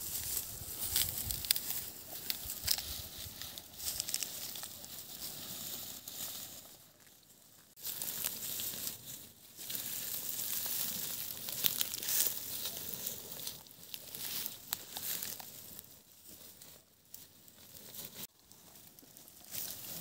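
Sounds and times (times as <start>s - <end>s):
rustling and crinkling: 0.0s - 20.0s.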